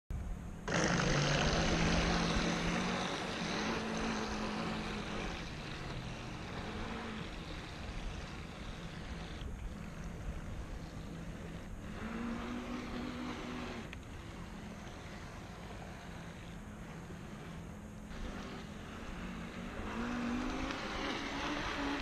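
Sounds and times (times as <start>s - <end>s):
model boat motor hum: 0.2s - 22.0s.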